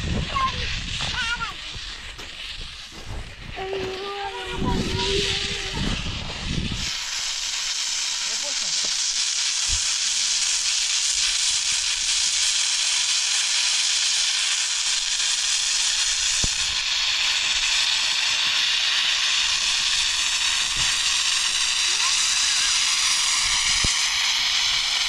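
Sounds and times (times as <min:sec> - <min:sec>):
rushing water hiss: 0:00.0 - 0:25.0.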